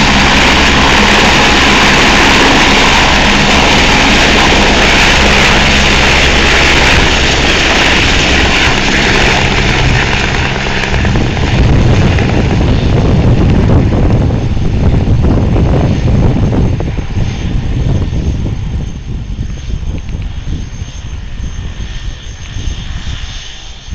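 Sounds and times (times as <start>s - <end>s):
deep helicopter rumble: 0.0s - 23.9s
helicopter rotor beat: 0.0s - 23.9s
helicopter turbine whine: 0.0s - 23.9s.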